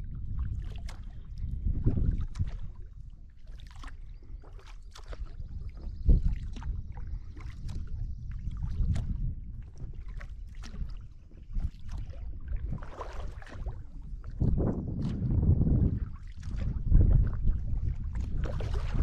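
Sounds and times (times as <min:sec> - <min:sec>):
paddle dipping through water: 0:00.0 - 0:19.0
water splashes and drips: 0:00.0 - 0:19.0
wind rumble on microphone: 0:00.0 - 0:19.0.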